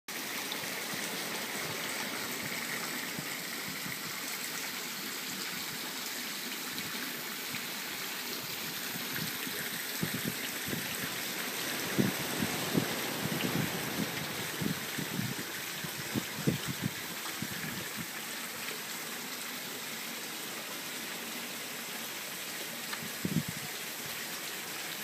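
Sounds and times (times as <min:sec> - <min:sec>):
fountain water splashing: 0:00.1 - 0:25.0.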